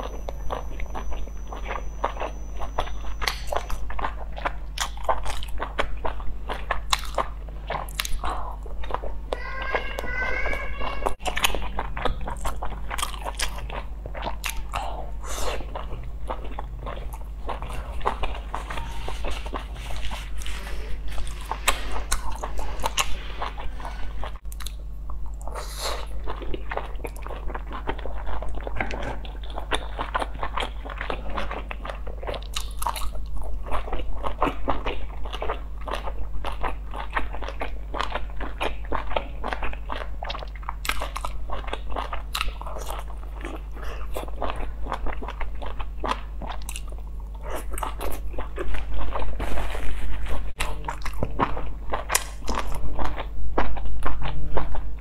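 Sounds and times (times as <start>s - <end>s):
person chewing dumplings: 0.0s - 9.7s, 11.2s - 55.0s
steady low hum: 0.0s - 55.0s.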